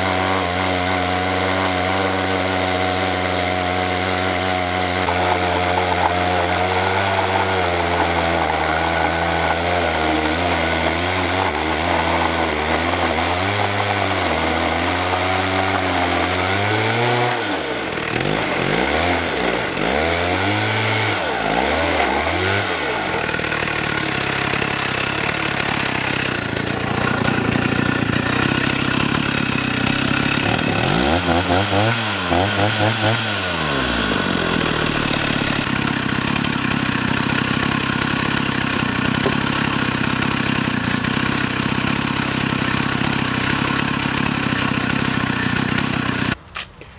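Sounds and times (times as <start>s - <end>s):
chainsaw cutting log: 0.0s - 46.8s.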